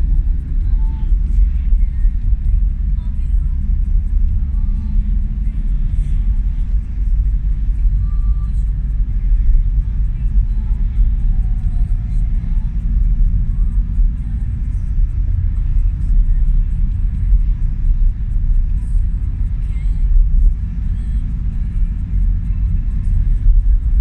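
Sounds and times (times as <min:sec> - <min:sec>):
truck engines rumbling: 0:00.0 - 0:24.0.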